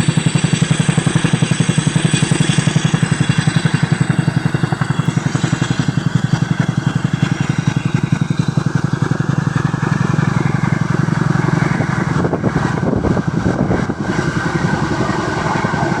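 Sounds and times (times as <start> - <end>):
helicopter rotors beating: 0.0 - 16.0.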